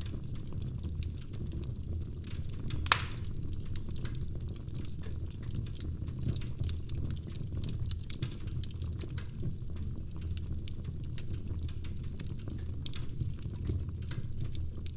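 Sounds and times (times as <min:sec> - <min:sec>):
wood fire crackling in fireplace: 0:00.0 - 0:14.9.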